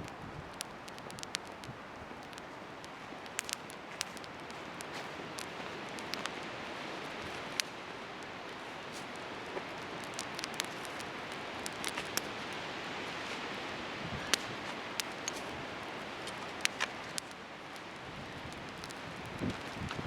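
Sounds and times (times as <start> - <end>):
rushing hiss of fire: 0.0 - 20.0
sharp pops of fire: 0.0 - 20.0
wood bonfire crackling: 0.0 - 20.0.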